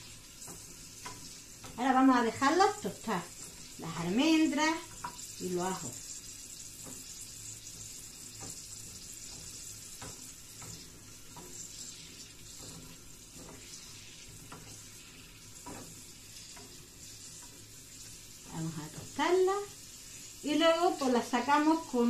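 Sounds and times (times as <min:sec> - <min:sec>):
garlic frying in oil: 0:00.0 - 0:22.0.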